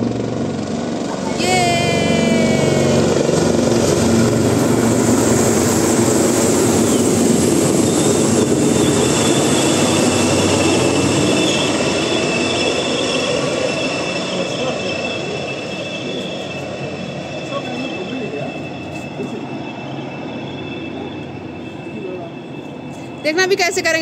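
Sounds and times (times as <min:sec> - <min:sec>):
helicopters flying overhead: 0:00.0 - 0:24.0
high engine whine: 0:00.0 - 0:24.0.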